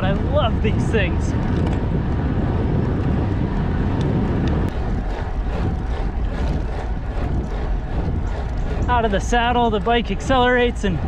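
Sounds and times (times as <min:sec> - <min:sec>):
motorcycle low rumble: 0:00.0 - 0:11.0
wind rushing over microphone: 0:00.0 - 0:11.0.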